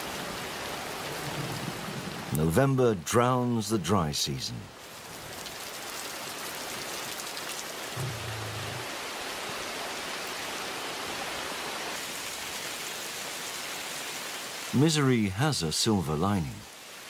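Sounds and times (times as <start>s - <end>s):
rain falling on water: 0.0s - 17.0s.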